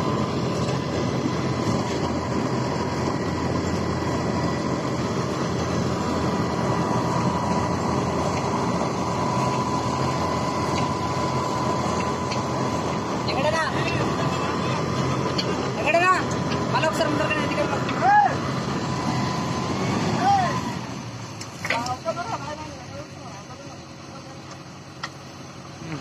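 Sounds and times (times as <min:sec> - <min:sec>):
diesel engines running: 0:00.0 - 0:26.0
steady high whine: 0:00.0 - 0:26.0.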